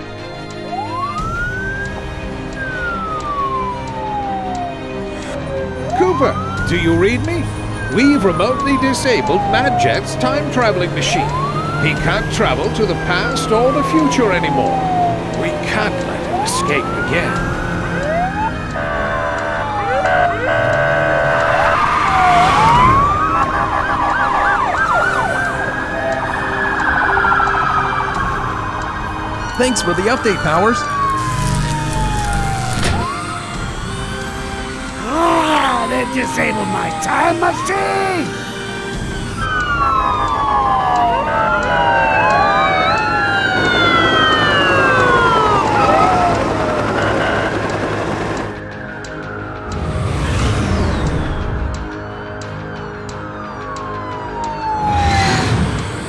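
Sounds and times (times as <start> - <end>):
police sirens wailing: 0.0 - 56.0
siren yelps: 0.5 - 56.0.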